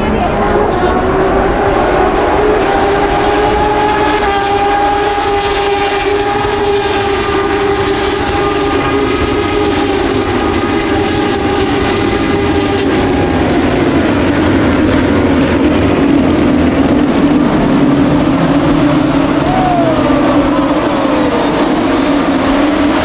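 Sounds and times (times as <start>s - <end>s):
motorcycle engines at high revs: 0.0s - 23.0s
motorcycle passing by: 0.0s - 23.0s.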